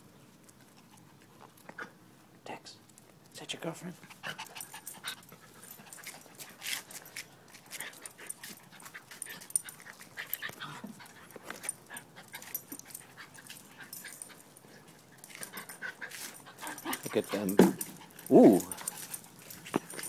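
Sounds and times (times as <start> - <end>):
small dogs playing: 3.9 - 20.0.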